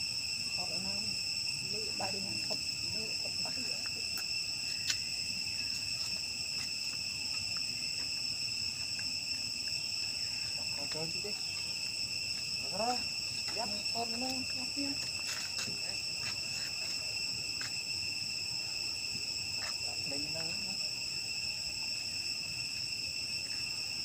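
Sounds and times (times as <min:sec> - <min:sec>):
insect chorus buzzing: 0:00.0 - 0:24.0.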